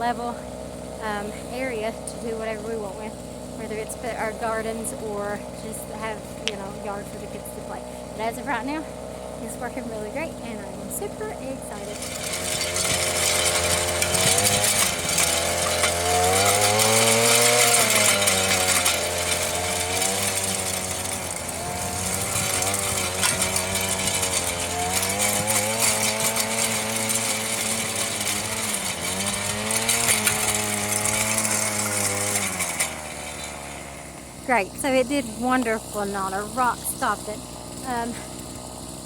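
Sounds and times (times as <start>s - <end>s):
tiller engine running hard: 0.0s - 39.0s
tines churning rocky soil: 0.0s - 39.0s.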